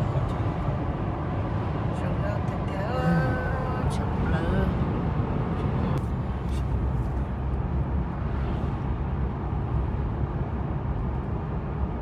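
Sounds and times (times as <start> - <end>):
car driving on highway: 0.0 - 12.0
tyre and road noise: 0.0 - 12.0.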